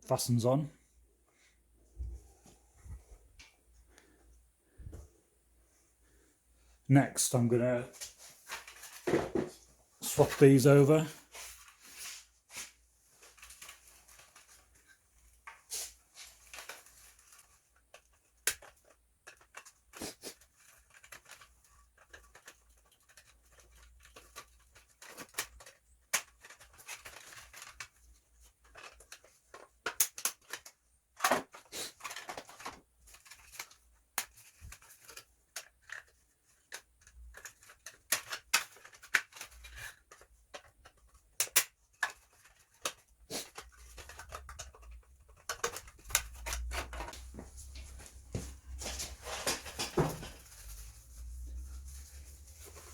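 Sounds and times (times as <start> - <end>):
plastic parts clicking and scraping: 8.0 - 52.9.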